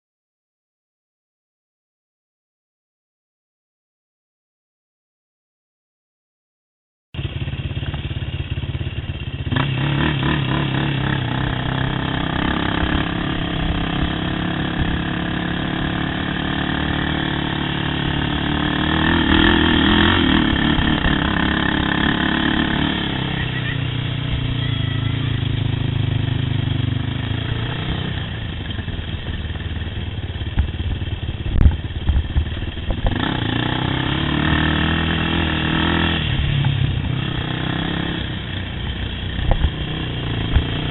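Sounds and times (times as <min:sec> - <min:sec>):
quad bike engine revving: 0:07.2 - 0:40.9.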